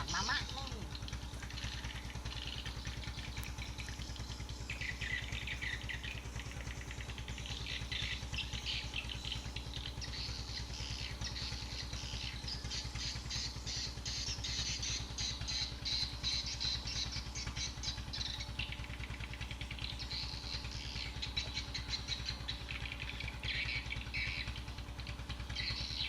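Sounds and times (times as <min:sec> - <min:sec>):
birds chirping: 0:00.0 - 0:26.0
small engine running: 0:00.0 - 0:26.0.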